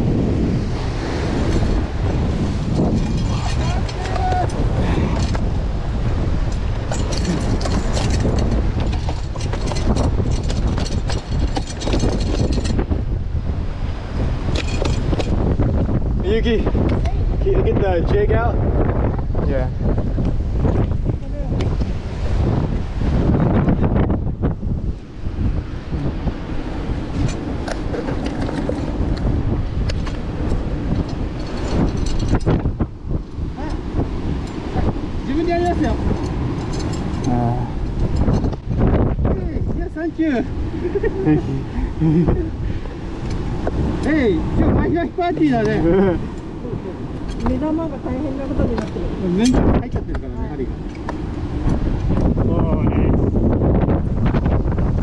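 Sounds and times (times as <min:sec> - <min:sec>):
surf washing: 0:00.0 - 0:55.0
wind buffeting microphone: 0:00.0 - 0:55.0.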